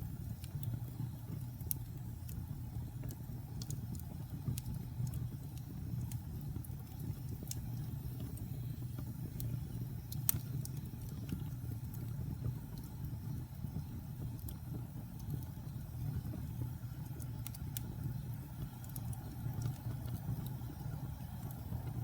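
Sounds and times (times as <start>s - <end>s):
fire low rumble: 0.0s - 22.0s
wood fire crackling and popping: 0.0s - 22.0s.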